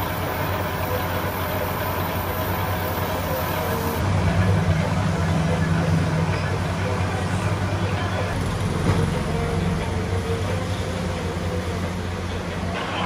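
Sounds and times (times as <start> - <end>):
metal lathe running: 0.0 - 13.0.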